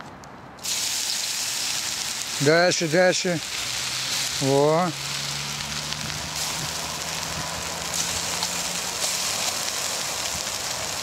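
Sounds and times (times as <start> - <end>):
embers hissing under water: 0.6 - 11.0.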